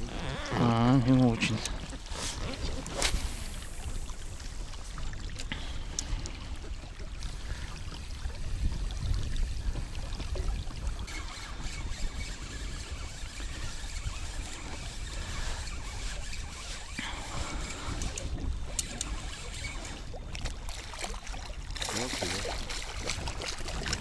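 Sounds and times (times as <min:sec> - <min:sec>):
water lapping against boat hull: 0:00.0 - 0:24.0
wind rumble on microphone: 0:00.0 - 0:24.0.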